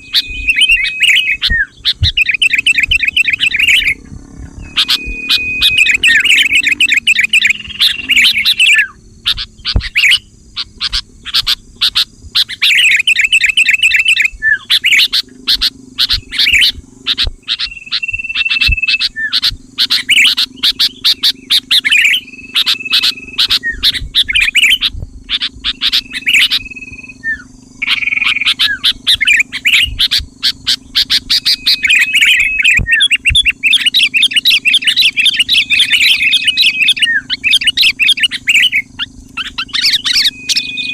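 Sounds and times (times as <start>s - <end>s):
bulbuls singing: 0.0s - 40.9s
steady low hum: 0.0s - 40.9s.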